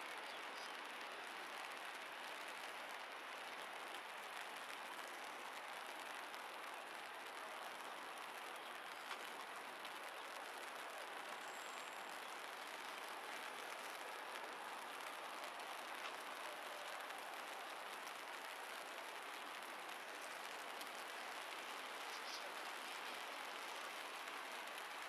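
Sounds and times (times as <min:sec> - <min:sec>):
drizzle on wet paving: 0:00.0 - 0:25.0.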